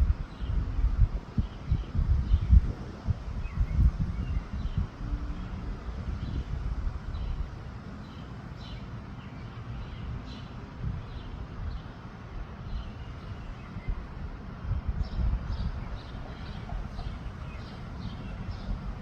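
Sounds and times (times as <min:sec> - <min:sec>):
wind rumbling on microphone: 0:00.0 - 0:19.0
birds chirping: 0:01.4 - 0:19.0.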